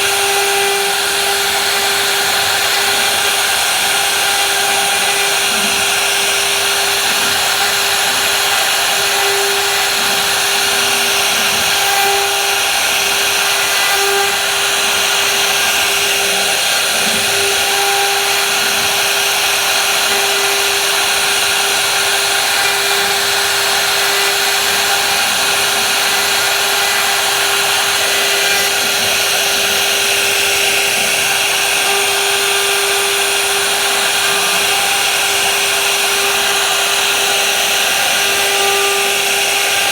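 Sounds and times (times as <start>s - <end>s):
woodworking power tool whine: 0.0s - 39.9s.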